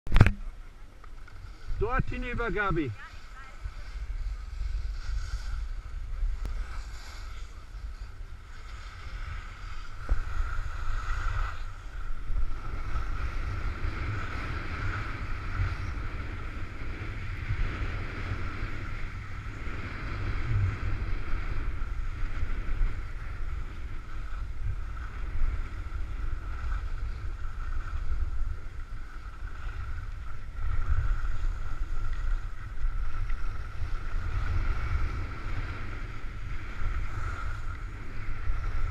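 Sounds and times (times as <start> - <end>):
wind buffeting microphone: 0.1 - 38.9
skis sliding over packed snow: 1.1 - 38.9.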